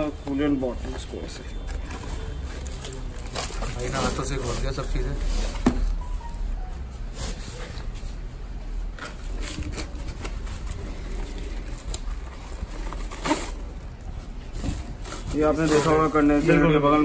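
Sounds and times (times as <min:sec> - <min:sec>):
paper and plastic crinkling: 0:00.0 - 0:17.0.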